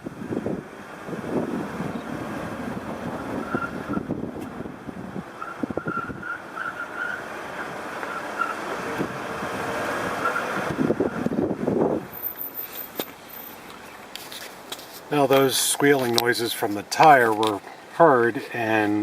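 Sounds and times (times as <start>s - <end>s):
vehicle running noise: 0.0s - 19.0s
tires squealing: 0.4s - 19.0s.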